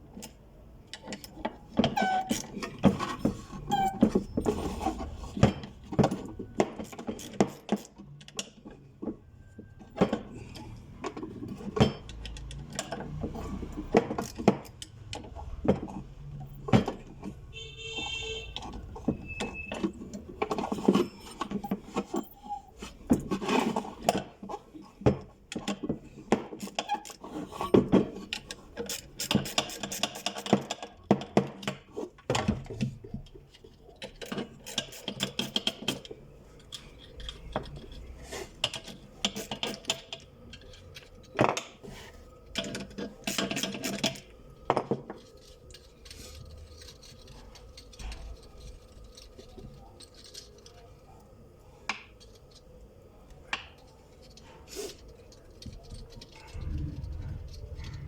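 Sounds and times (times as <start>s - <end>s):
metal tools clinking and scraping: 1.0s - 31.0s, 33.4s - 58.0s.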